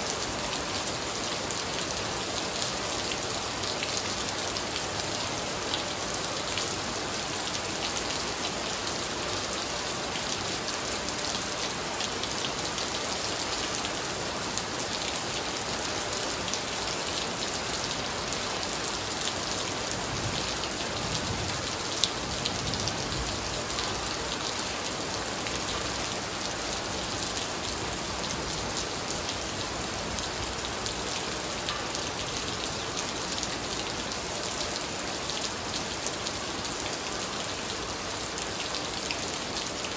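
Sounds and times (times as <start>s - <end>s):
heavy rain on tiles: 0.0s - 39.9s.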